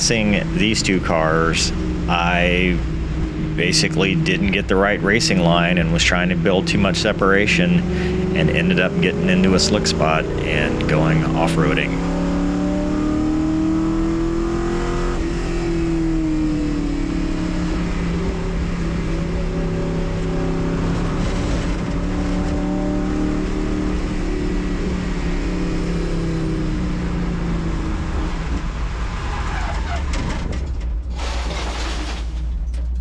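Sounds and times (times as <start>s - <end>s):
race car engine under load: 0.0s - 33.0s.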